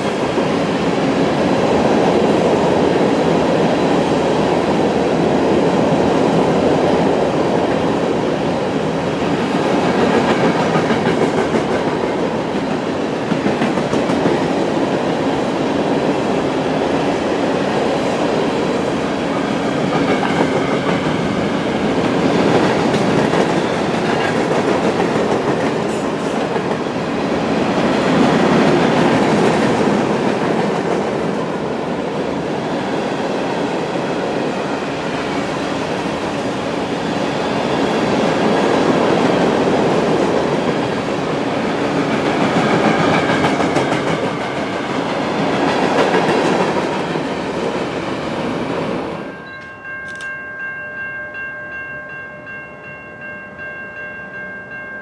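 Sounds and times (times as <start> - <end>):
train wheels rumbling on rails: 0.0 - 50.3.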